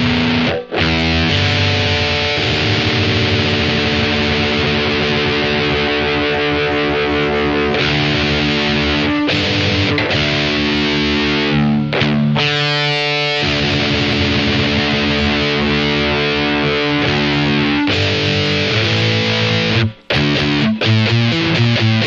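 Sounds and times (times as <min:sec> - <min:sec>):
distorted electric guitar chords: 0:00.0 - 0:22.0.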